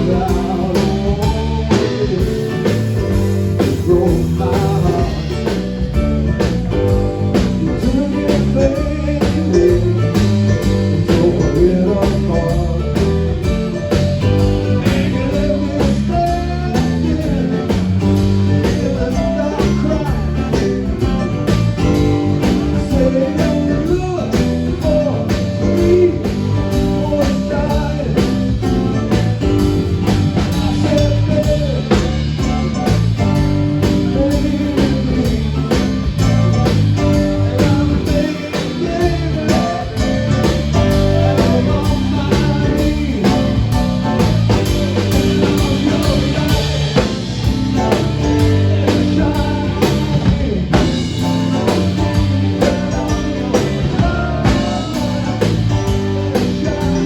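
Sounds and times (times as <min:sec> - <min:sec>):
person singing: 0:00.0 - 0:05.6, 0:06.9 - 0:29.2, 0:30.4 - 0:57.0
blues-rock guitar: 0:00.0 - 0:57.0
drum kit beat: 0:00.0 - 0:57.0.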